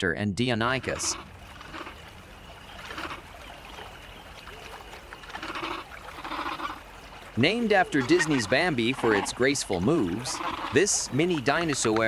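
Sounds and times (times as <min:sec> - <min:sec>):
faint trickling water: 0:00.6 - 0:12.0.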